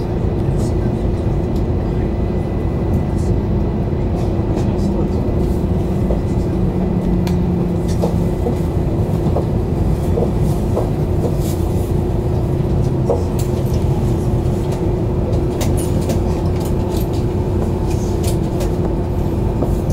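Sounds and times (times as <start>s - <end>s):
train cabin rumble and hum: 0.0s - 19.9s.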